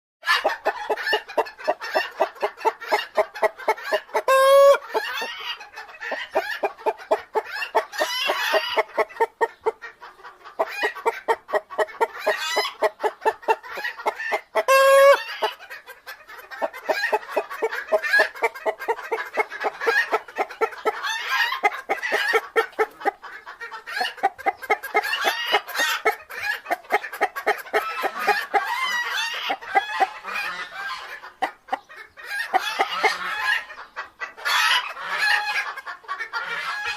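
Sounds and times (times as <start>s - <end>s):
chicken drawn-out call: 0.2s - 36.9s
chickens clucking: 0.2s - 36.9s.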